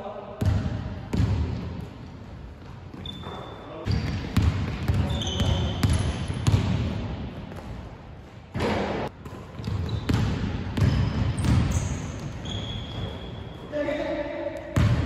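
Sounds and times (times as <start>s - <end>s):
sneakers squeaking: 1.8s - 15.0s.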